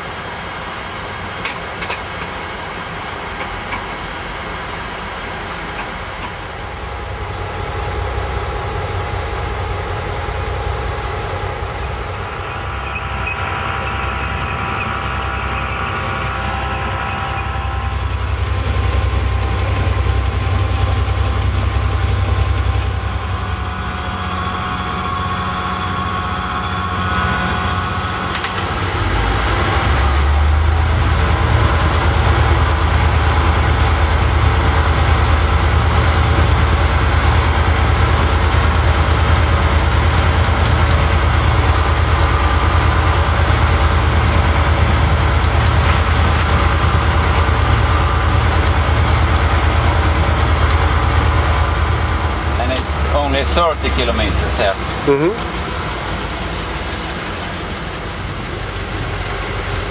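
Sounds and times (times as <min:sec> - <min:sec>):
diesel locomotive engine throbbing: 0:00.0 - 0:59.9
train wheels on rail: 0:00.0 - 0:59.9.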